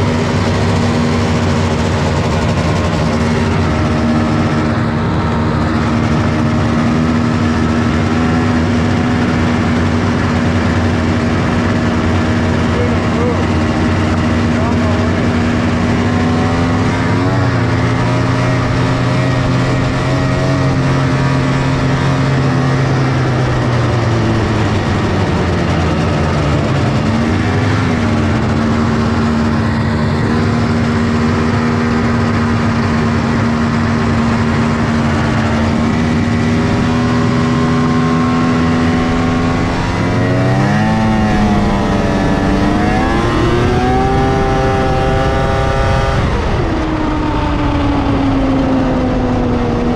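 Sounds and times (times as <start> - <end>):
snowmobile engine under throttle: 0.0 - 49.9.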